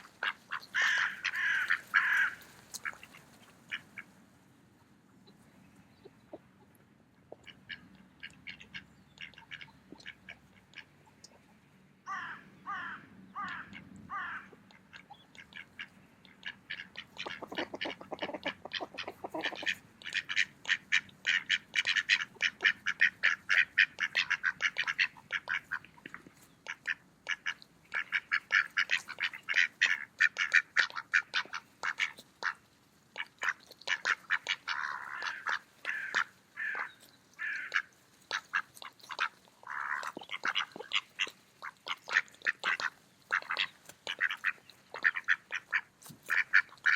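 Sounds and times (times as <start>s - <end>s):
ducks quacking: 0.0s - 4.2s, 6.0s - 46.9s.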